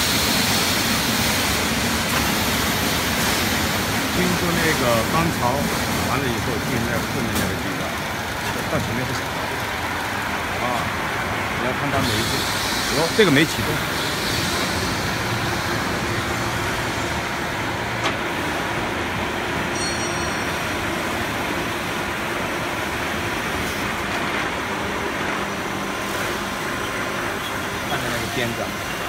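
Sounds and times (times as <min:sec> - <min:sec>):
roll-forming machine running: 0:00.0 - 0:19.4, 0:20.9 - 0:29.0.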